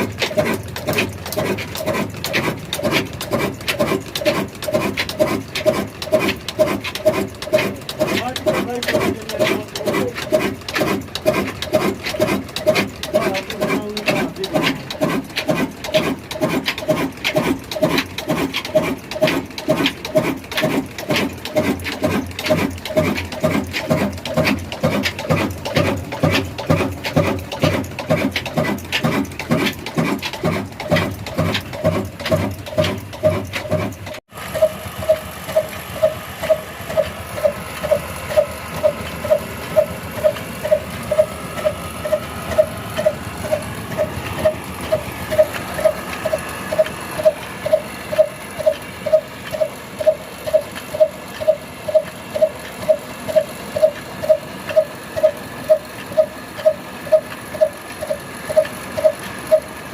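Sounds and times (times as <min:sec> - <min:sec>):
dense mechanical clatter: 0:00.0 - 0:59.9
diesel engine beating: 0:00.0 - 0:59.9.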